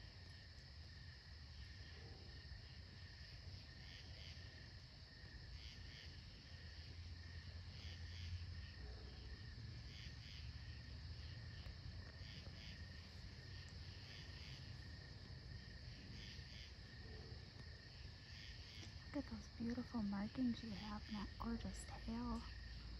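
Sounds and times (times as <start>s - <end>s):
faint low rumble: 0.0s - 22.9s
insects chirping: 0.0s - 22.9s.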